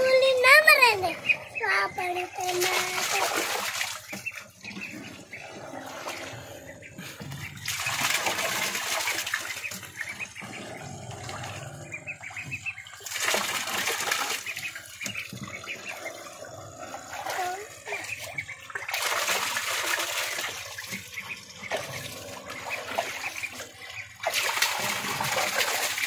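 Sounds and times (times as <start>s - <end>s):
ducklings splashing in water: 0.0s - 26.0s.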